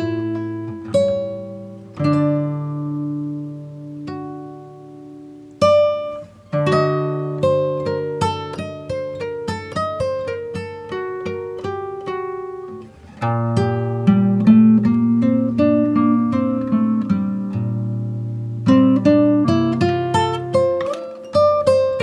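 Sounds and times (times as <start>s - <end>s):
acoustic guitar picking: 0.0s - 22.0s
guitar chord strummed: 0.0s - 22.0s.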